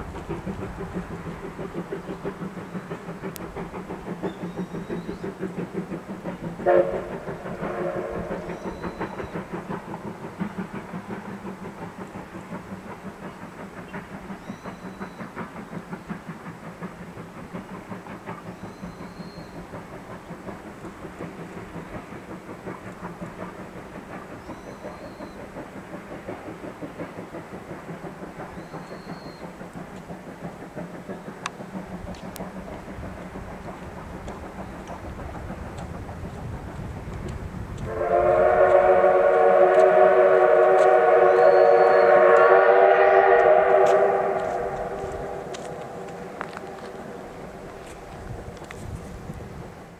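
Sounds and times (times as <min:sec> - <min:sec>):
steam locomotive exhaust beat: 0:00.0 - 0:49.9
train wheels on rails: 0:00.0 - 0:49.9.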